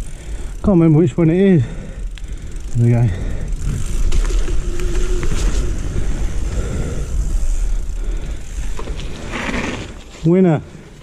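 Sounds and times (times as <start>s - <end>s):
bike clicks and rattles: 0.0s - 11.0s
wind buffeting and tyre noise: 0.0s - 11.0s.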